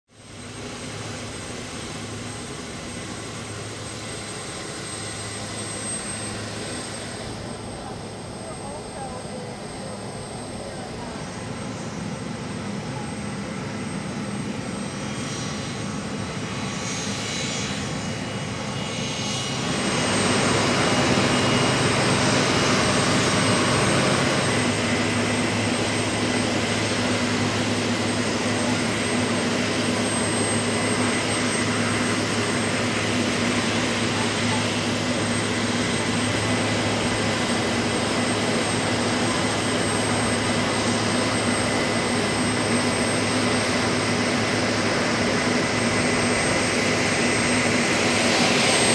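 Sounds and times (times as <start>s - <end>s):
jet turbine engine whine: 0.1s - 48.9s.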